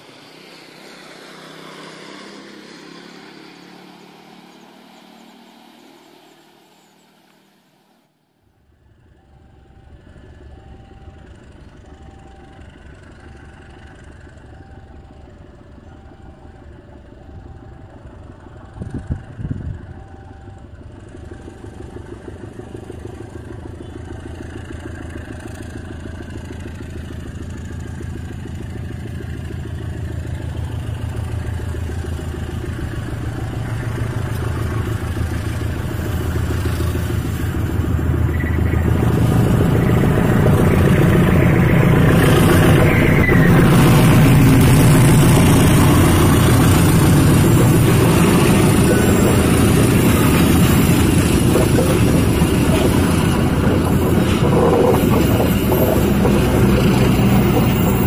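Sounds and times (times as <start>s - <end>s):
diesel locomotive hauling train: 0.0s - 58.0s.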